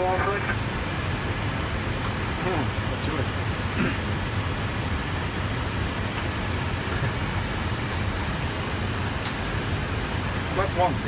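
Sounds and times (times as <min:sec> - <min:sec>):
airliner cockpit airflow noise: 0:00.0 - 0:11.0.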